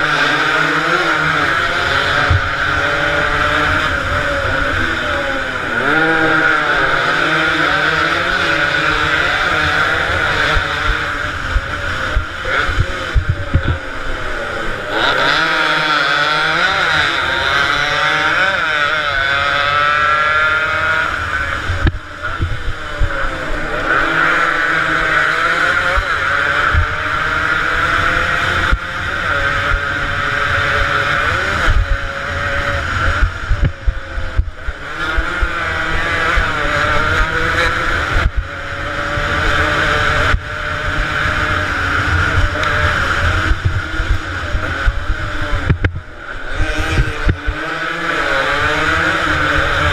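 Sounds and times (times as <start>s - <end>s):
two-stroke motorcycles racing: 0.0s - 49.9s.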